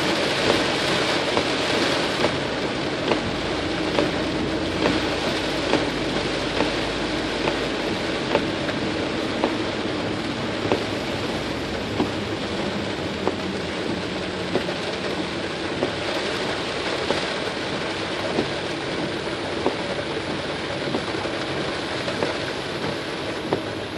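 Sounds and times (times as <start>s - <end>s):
heavy rain on car roof: 0.0s - 23.9s
windshield wiper knocks: 0.4s - 16.4s, 17.0s - 23.9s.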